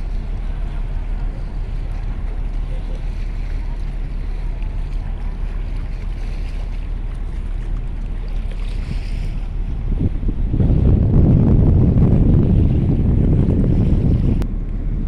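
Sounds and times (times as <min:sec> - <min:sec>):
ferry engines rumbling: 0:00.0 - 0:15.0
water noise: 0:00.0 - 0:15.0
wind buffeting microphone: 0:00.0 - 0:15.0.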